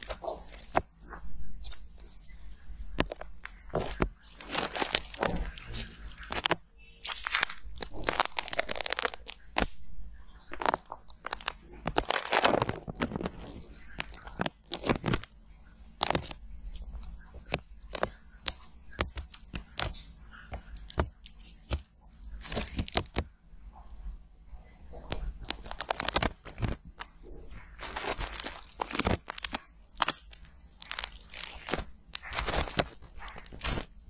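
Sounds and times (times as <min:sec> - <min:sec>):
film peeling and tearing: 0:00.0 - 0:09.8, 0:10.5 - 0:15.3, 0:16.0 - 0:23.2, 0:25.4 - 0:26.8, 0:27.5 - 0:34.0.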